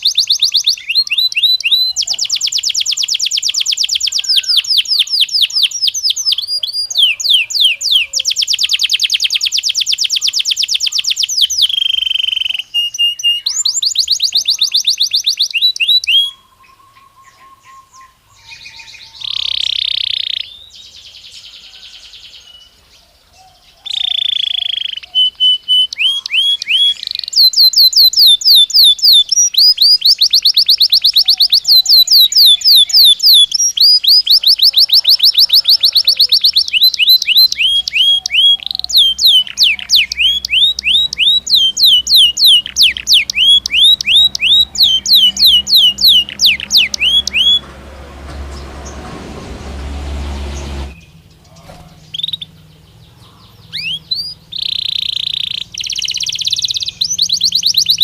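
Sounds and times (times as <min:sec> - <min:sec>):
canary singing rapid trills: 0:00.0 - 0:22.7, 0:23.5 - 0:47.7, 0:50.3 - 0:58.0.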